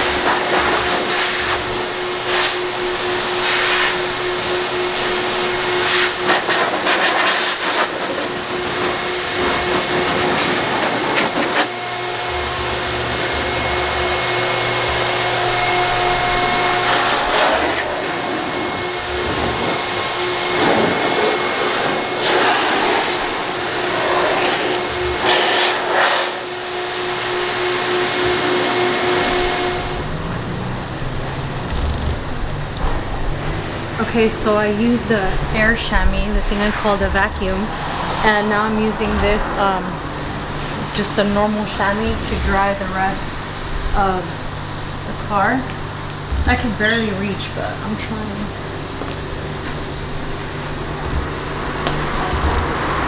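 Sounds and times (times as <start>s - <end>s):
electric air blower running: 0.0s - 53.0s.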